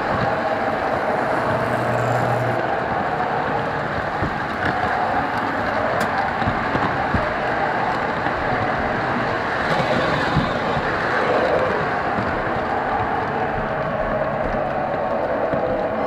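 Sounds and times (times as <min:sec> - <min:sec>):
model train cars rolling: 0:00.0 - 0:16.0
wheels clicking on rail joints: 0:00.0 - 0:16.0.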